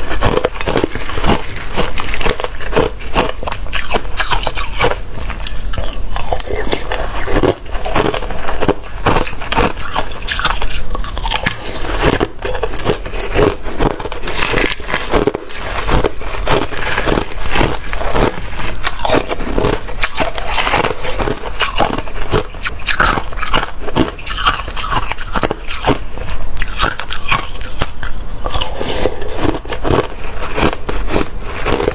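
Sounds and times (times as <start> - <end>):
ice being chewed: 0.0 - 31.9.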